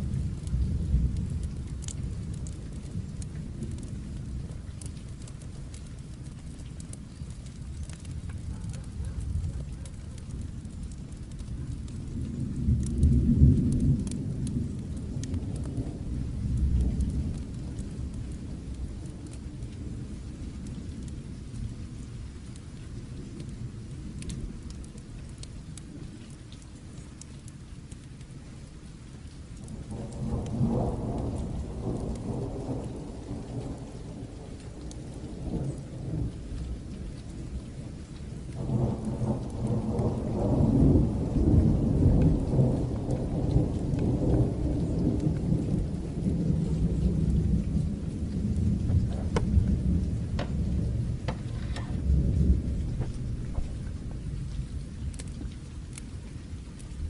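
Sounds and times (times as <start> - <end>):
distant thunder rolling: 0.0 - 22.0, 29.6 - 56.0
sharp crackles: 0.0 - 57.0
steady rain: 0.0 - 57.0.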